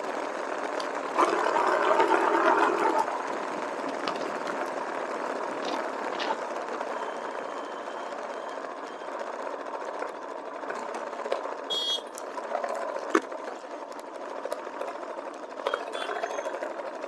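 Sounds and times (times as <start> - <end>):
motorcycle engine drone: 0.0 - 17.0
road and wind noise: 0.0 - 17.0.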